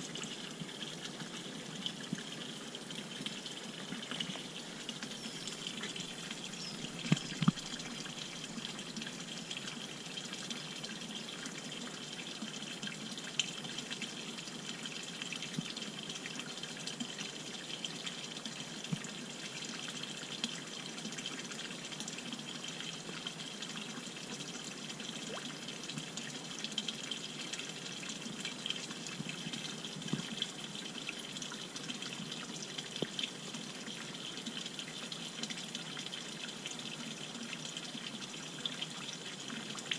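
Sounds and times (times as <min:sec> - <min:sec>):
water stream splashing into pond: 0:00.0 - 0:39.9.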